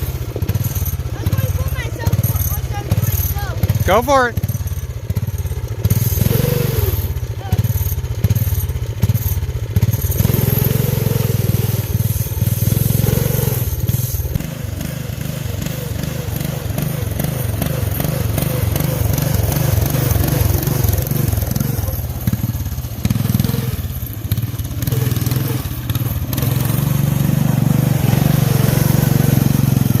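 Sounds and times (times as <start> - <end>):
lawn tractor engine running: 0.0 - 30.0.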